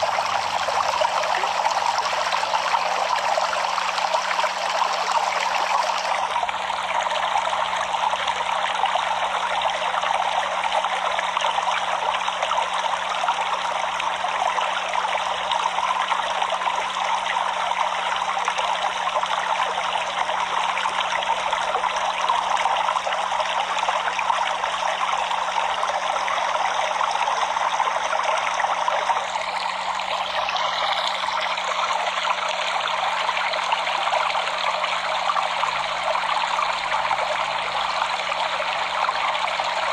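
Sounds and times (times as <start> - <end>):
stream water flowing over stones: 0.0 - 39.9.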